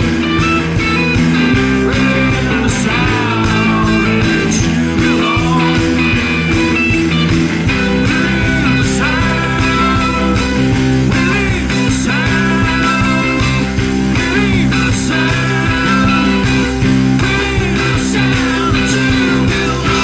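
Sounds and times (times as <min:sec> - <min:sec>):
psychedelic rock music: 0:00.0 - 0:20.0.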